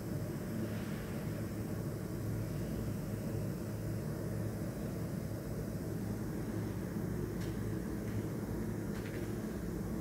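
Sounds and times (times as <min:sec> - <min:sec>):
machine humming and whirring: 0:00.0 - 0:10.0.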